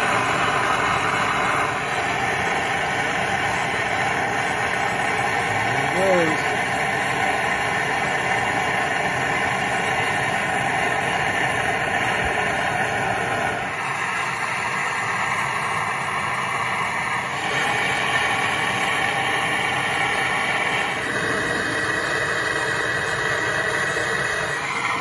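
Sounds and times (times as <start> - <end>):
gas torch flame hissing: 0.0 - 25.0.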